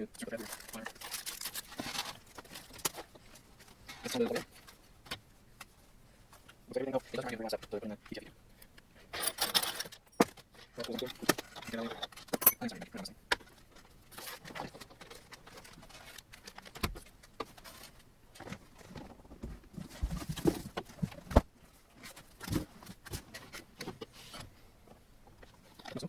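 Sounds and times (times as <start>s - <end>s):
cables being handled: 0.0s - 26.0s
hands clicking and tapping parts: 0.1s - 26.0s.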